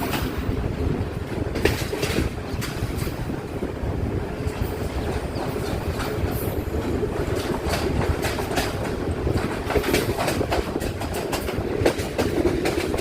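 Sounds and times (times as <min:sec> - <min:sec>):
train rumbling along track: 0:00.0 - 0:13.0
wheels clacking on rails: 0:00.0 - 0:13.0.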